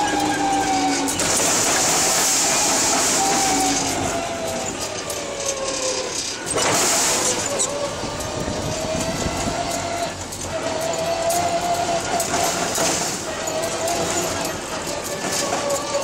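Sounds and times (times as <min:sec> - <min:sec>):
forklift drone and rattle: 0:00.0 - 0:16.0.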